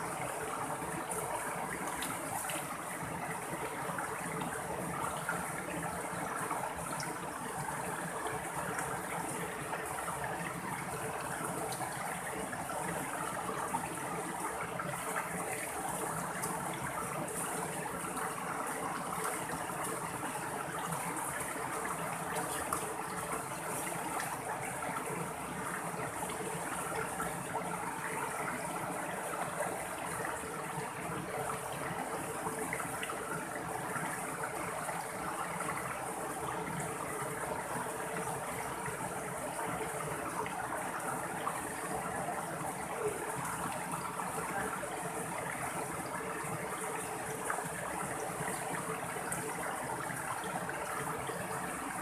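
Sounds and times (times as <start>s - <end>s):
stream flowing over rocks: 0.0s - 52.0s.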